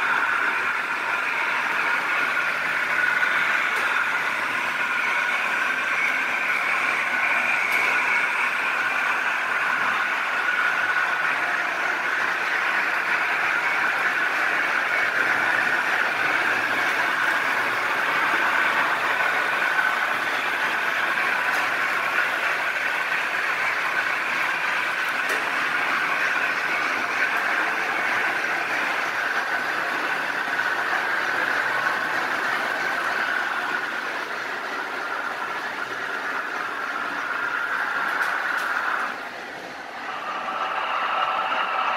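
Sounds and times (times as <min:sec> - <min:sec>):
model train motors whirring: 0:00.0 - 0:41.9.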